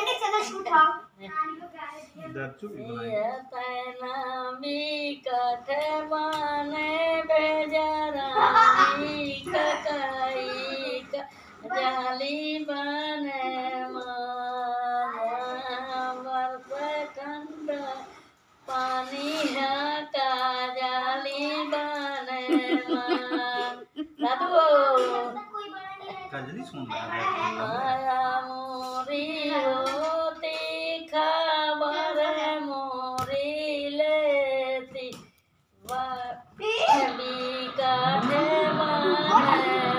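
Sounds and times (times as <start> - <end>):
elderly woman singing unaccompanied: 2.4 - 25.4, 27.8 - 39.9.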